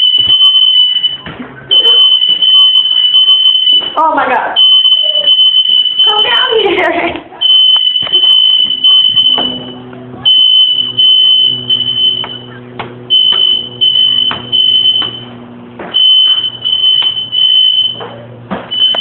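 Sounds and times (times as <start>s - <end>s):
fire alarm beeping: 0.0s - 19.0s
low hum: 0.0s - 19.0s.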